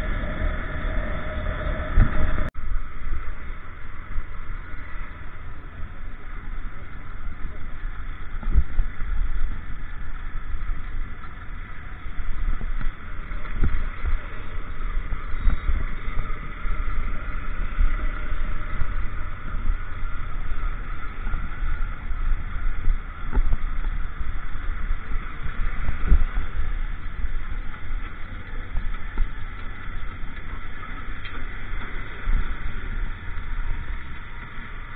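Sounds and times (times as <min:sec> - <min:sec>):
wind rumble on microphone: 0:00.0 - 0:34.9.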